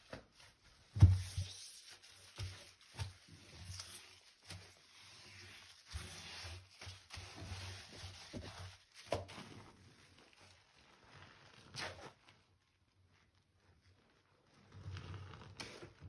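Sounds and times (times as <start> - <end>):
soapy water squelching and sloshing: 0.8 - 14.7.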